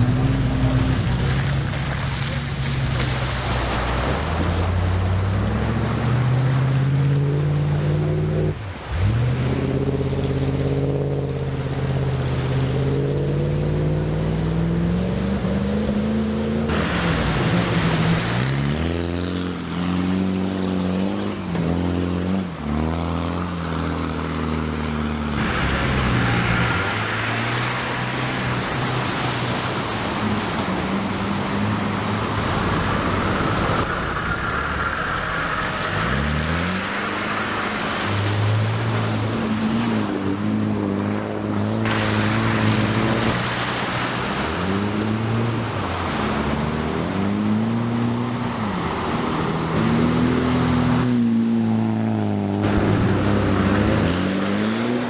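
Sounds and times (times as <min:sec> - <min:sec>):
off-road engines revving and labouring: 0:00.0 - 0:55.0.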